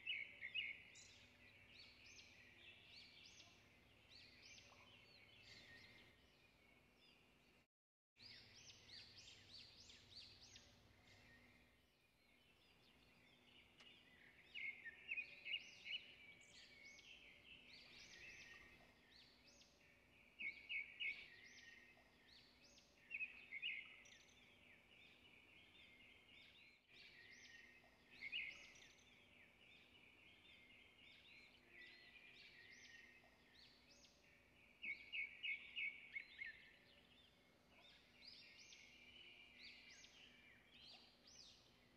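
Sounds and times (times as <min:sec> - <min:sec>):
faint bird chirps: 0:00.0 - 0:07.6, 0:08.2 - 0:41.9.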